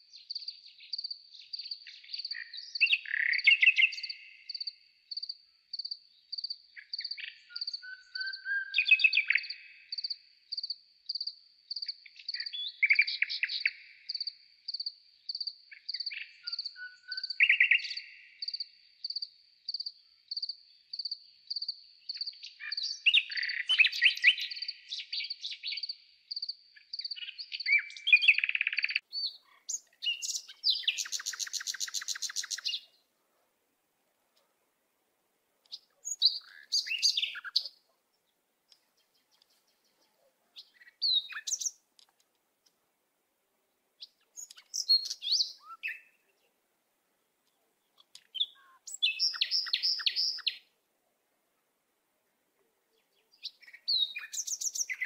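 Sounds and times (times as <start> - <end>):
high bird chirp: 0.2 - 32.9, 35.7 - 37.8, 39.0 - 41.8, 44.0 - 46.4, 48.0 - 50.7, 53.0 - 55.0
songbirds warbling: 0.2 - 33.1, 35.6 - 42.1, 44.0 - 46.6, 47.5 - 50.7, 53.0 - 55.0.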